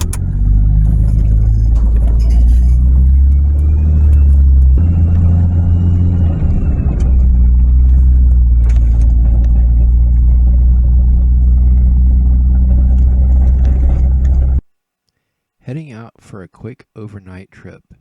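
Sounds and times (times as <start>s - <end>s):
road noise: 0.0s - 14.6s
truck engine droning: 0.0s - 14.6s.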